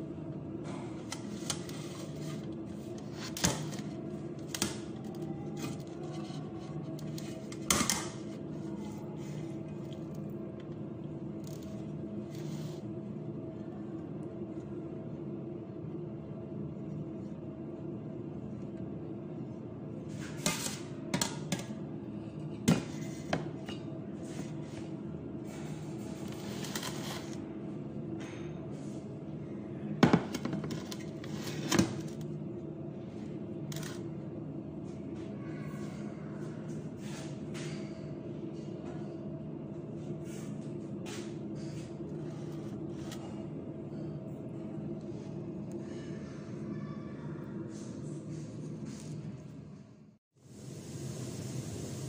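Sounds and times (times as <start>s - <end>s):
steady hum: 0.0s - 52.0s.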